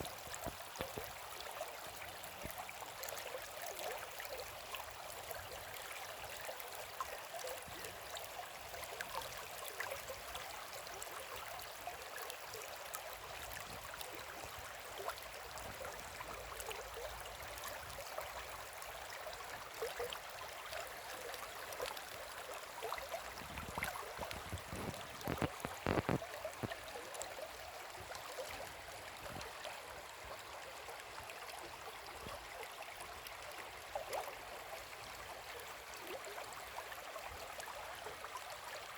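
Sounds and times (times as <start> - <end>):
river babbling over stones: 0.0 - 38.9.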